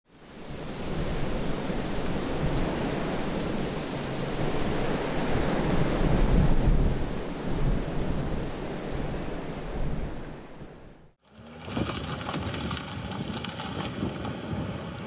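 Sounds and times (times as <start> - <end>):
strong wind on microphone: 0.2 - 15.0.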